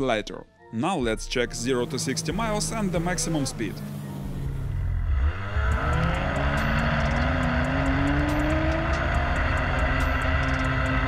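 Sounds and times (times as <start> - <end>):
snowmobile engine at full throttle: 1.7 - 11.0
low rising whine: 1.8 - 11.0.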